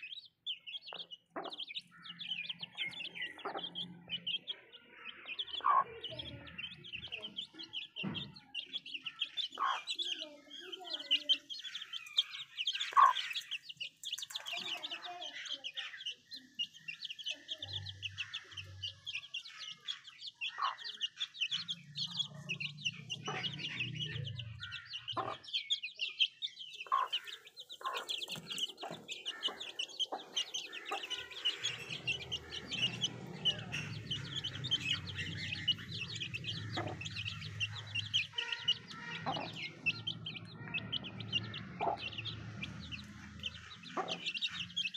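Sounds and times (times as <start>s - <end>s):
chicks peeping: 0.0s - 44.9s
hen clucking: 0.9s - 26.0s, 26.8s - 44.9s.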